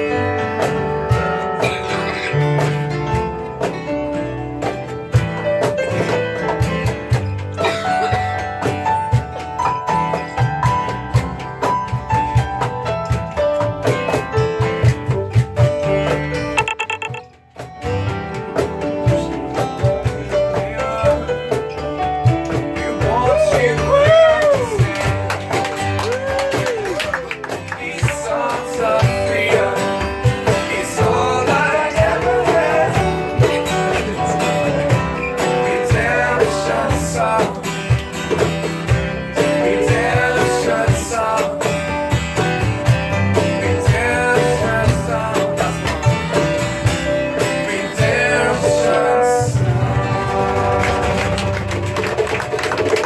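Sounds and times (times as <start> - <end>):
guitar: 0.0 - 53.0.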